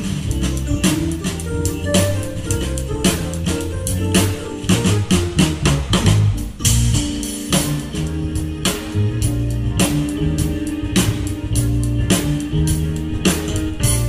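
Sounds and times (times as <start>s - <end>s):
bass guitar: 0.0s - 14.0s
drum kit steady beat: 0.0s - 14.0s.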